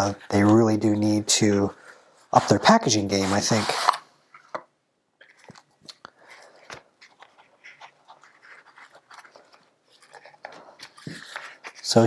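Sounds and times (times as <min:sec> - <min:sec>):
paper and cardboard rustling: 0:00.0 - 0:01.2, 0:02.3 - 0:04.6, 0:05.3 - 0:12.0.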